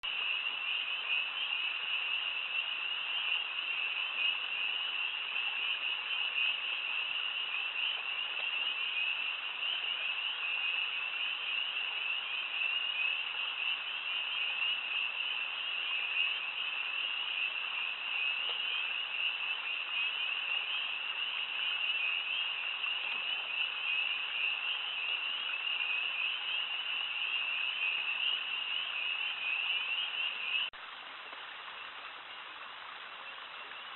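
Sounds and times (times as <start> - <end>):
chorus of frogs calling: 0.0 - 30.7.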